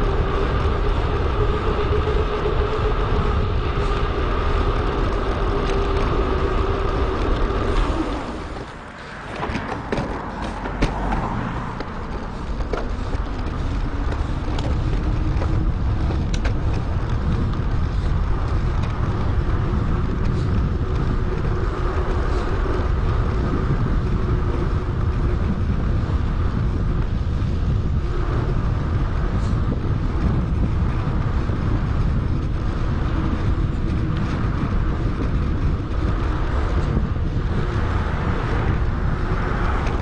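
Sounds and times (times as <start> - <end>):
wind rushing on microphone: 0.0 - 40.0.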